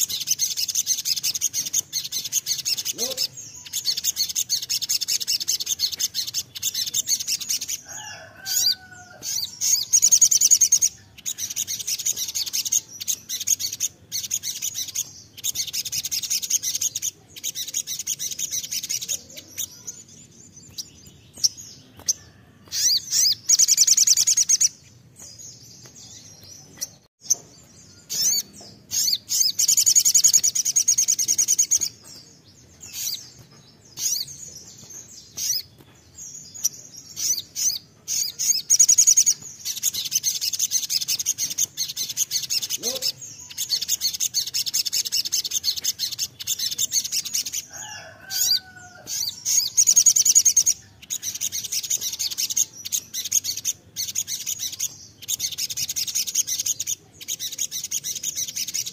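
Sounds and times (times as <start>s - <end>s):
bird singing high-pitched trills: 0.0s - 58.9s.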